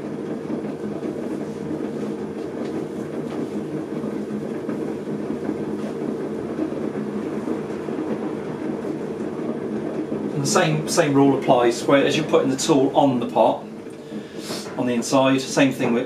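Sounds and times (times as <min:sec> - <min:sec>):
electric potter's wheel rumbling: 0:00.0 - 0:16.0.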